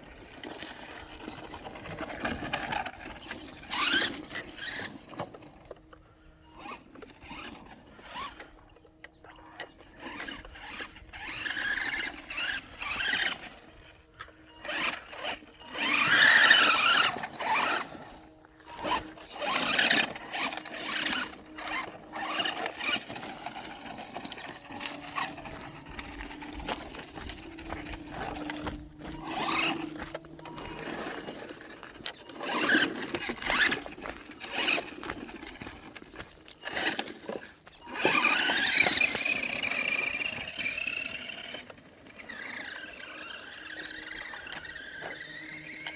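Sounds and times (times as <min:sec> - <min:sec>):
toy car motor whining: 0:00.0 - 0:45.9
tyres scrabbling on rough ground: 0:00.0 - 0:45.9.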